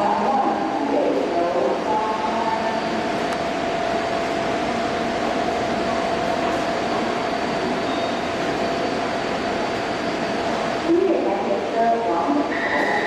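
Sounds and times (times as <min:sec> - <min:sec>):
stationary train hum: 0:00.0 - 0:13.0.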